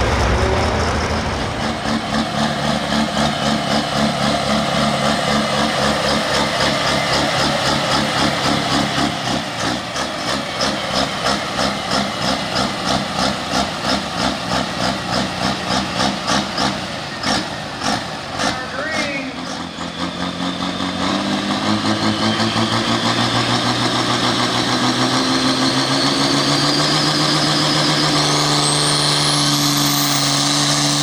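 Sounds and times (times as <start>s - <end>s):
tractor engine idling loudly: 0.0s - 31.0s.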